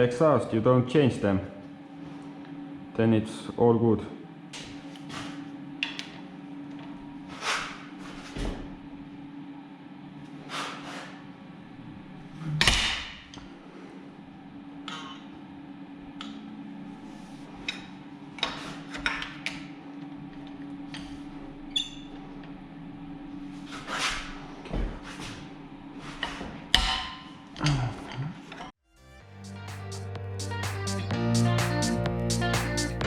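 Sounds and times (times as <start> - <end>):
steady low hum: 0.0 - 28.3.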